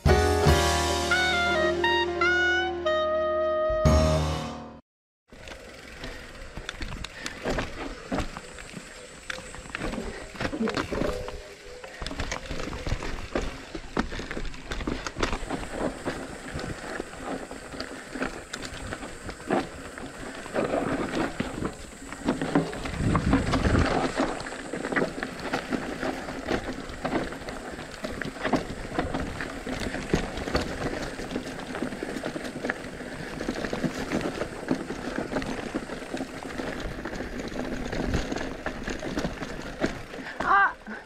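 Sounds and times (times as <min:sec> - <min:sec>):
bike tyres crunching over dirt: 0:05.3 - 0:41.0
bike knocking and clattering: 0:05.4 - 0:41.0.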